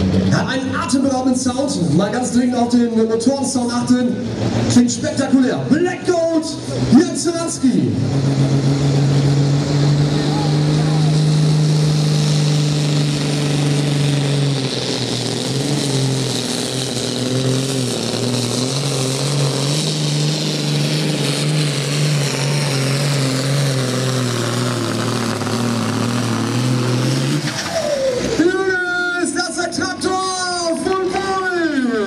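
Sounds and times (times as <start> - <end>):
tractor diesel engine labouring: 0.0 - 32.0.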